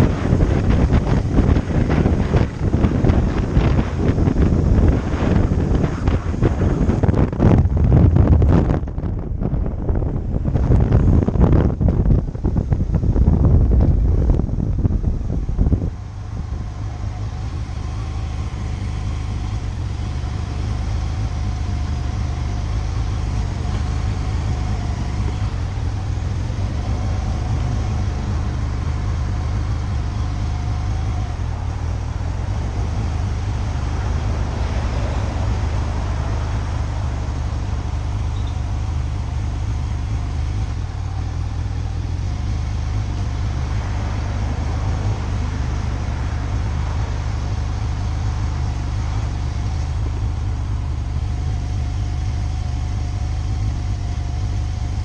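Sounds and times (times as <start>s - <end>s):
wind noise on microphone: 0.0s - 54.8s
motorcycle engine hum: 0.0s - 55.0s
road noise: 0.0s - 55.0s.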